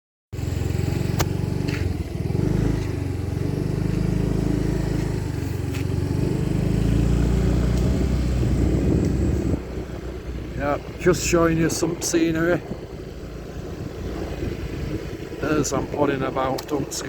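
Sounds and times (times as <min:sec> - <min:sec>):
wind: 0:00.3 - 0:17.0
motor scooter engine rumble: 0:00.4 - 0:17.0.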